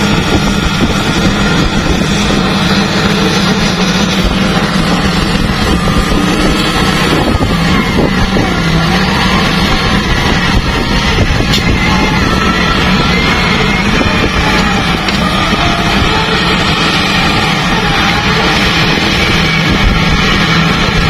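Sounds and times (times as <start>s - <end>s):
diesel engine under load: 0.0s - 21.0s
faint whines: 0.0s - 21.0s.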